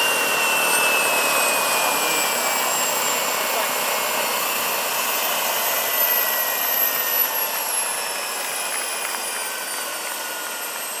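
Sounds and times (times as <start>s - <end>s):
model helicopter turbine winding down: 0.0s - 11.0s.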